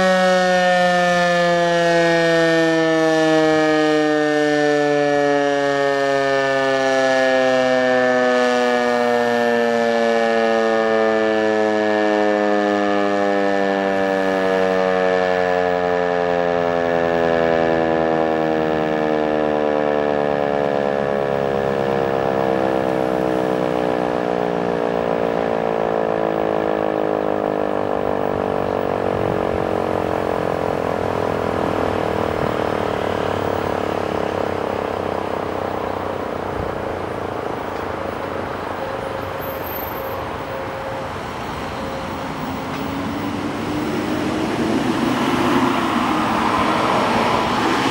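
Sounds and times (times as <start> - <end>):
warning siren gliding down: 0.0 - 47.9.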